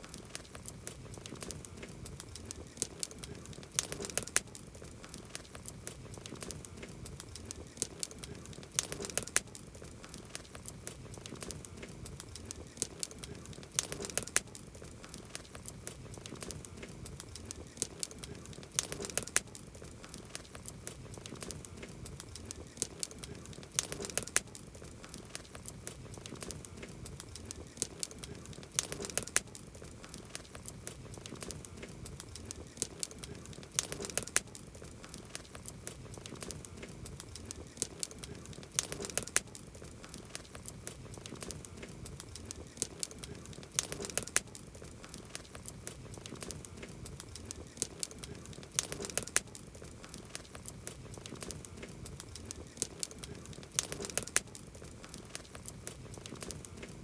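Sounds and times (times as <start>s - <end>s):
campfire wood crackling and popping: 0.0s - 57.0s.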